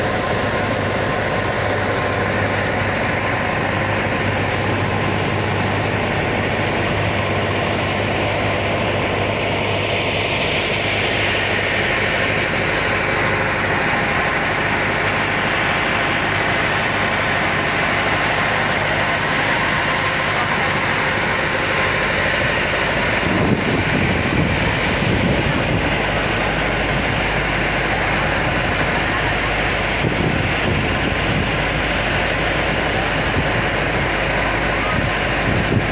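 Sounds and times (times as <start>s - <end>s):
boat engine droning: 0.0s - 35.9s
rush of wind and water: 0.0s - 35.9s
uneven low rumbling: 0.0s - 35.9s.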